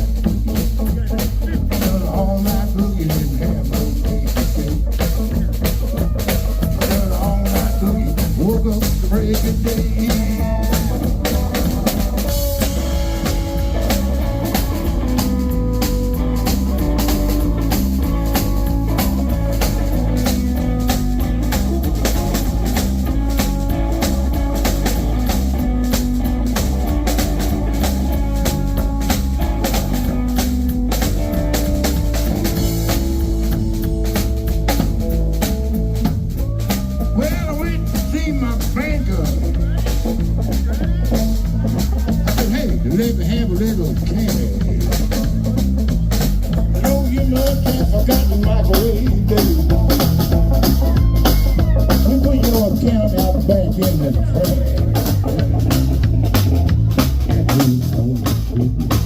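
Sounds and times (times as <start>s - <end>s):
bass line: 0.0s - 59.0s
drum kit beat: 0.0s - 59.0s
lead melody: 9.6s - 59.0s.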